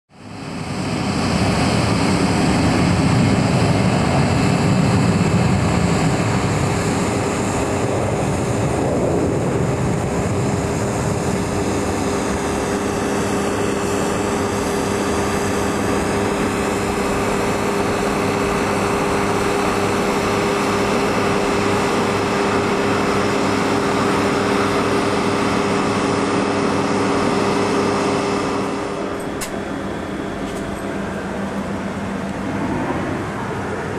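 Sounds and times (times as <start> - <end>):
jet turbine whine: 0.1 - 33.9
low engine rumble: 0.1 - 33.9.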